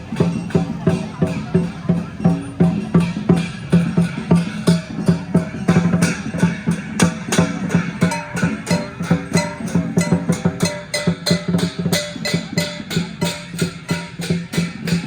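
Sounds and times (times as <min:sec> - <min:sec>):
drum and cymbals beating: 0:00.0 - 0:15.0.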